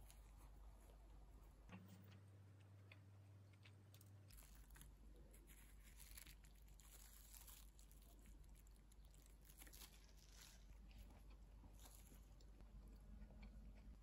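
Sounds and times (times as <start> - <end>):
faint sandwich chewing crunches: 0.0 - 14.0.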